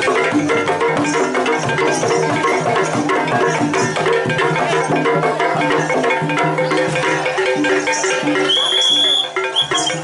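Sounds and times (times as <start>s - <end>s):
gamelan melody: 0.0s - 10.0s
hand drums beating: 0.0s - 10.0s.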